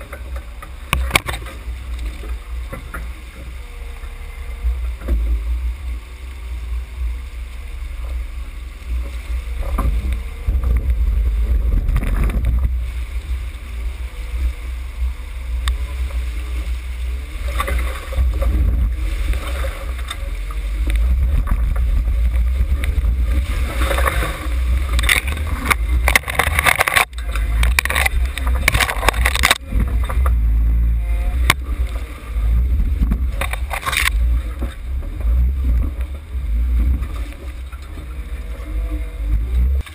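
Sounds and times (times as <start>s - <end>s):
engine rumble: 0.0s - 39.9s
rushing water: 0.0s - 39.9s.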